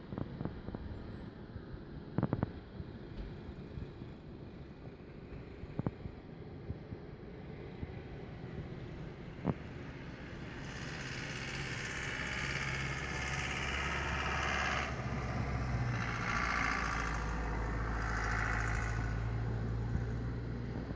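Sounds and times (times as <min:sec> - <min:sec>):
engine humming: 0:02.2 - 0:20.9.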